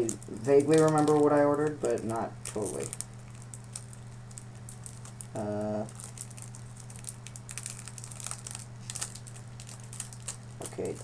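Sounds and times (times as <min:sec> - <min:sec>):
paper package rustling: 0:00.0 - 0:11.0.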